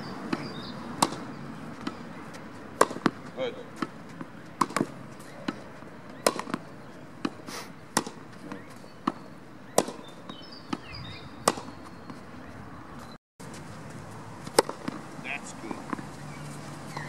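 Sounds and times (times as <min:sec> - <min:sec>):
tennis ball hit by rackets: 0:00.3 - 0:12.2, 0:14.4 - 0:16.3.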